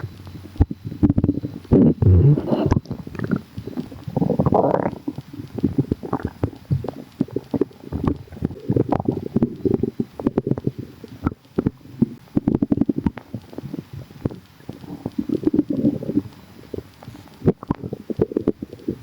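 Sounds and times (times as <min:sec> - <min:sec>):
stomach gurgling: 0:00.0 - 0:19.0.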